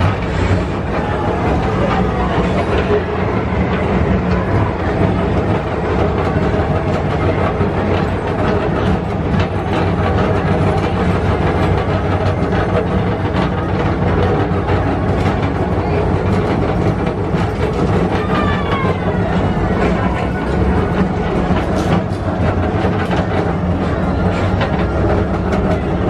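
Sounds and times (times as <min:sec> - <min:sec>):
ride car rumbling on track: 0:00.0 - 0:26.0.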